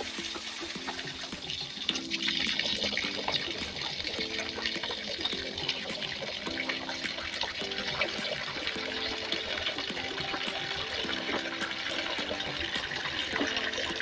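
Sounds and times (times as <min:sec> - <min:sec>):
water tap running: 0:00.0 - 0:14.0.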